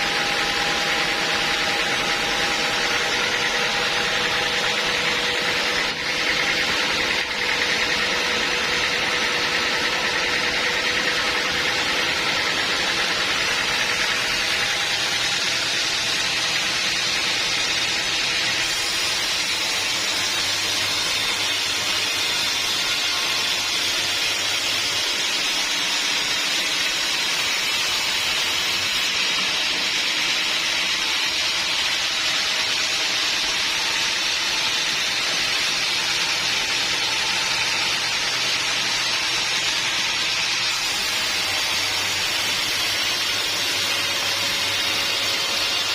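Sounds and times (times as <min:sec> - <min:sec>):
sawmill saw hissing: 0:00.0 - 0:45.9.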